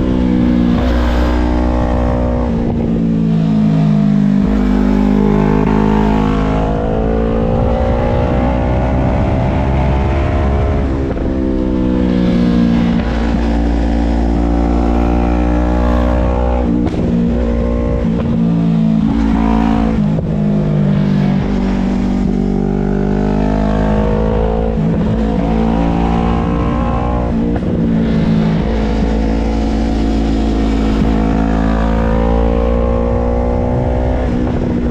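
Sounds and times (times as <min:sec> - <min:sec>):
vehicle engine revving: 0:00.0 - 0:34.9.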